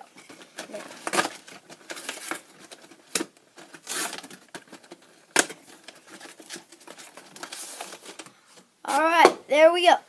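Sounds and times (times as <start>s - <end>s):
cardboard and plastic rustling: 0.0s - 8.7s.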